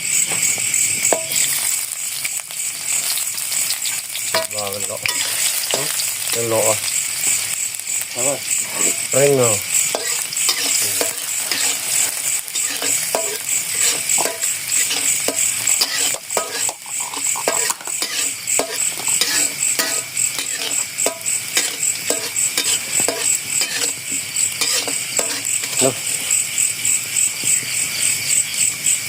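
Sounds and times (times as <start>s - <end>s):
crickets chirping: 0.0s - 29.0s
sizzling hiss: 0.0s - 29.0s.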